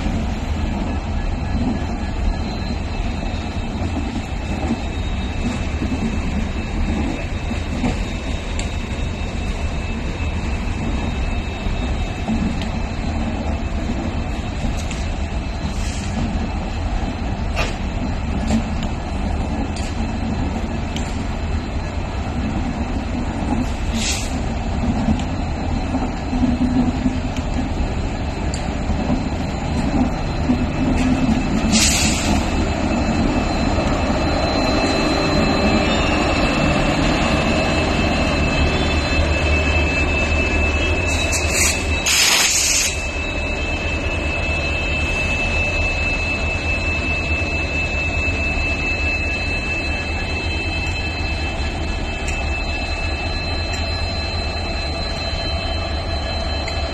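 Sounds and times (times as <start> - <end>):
thin steady whine: 0.0 - 56.9
train wheels rumbling on rails: 0.0 - 56.9.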